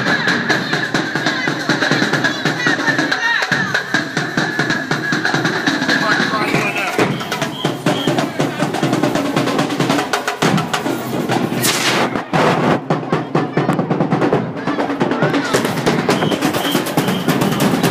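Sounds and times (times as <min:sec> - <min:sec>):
marching drumline: 0:00.0 - 0:17.9.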